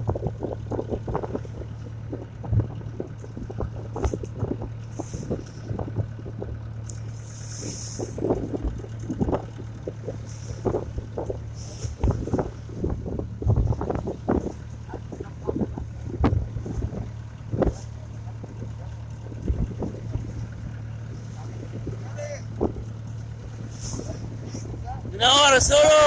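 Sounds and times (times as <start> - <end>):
wind buffeting microphone: 0.0 - 6.8, 7.6 - 26.0
motorboat engine humming: 0.0 - 26.0.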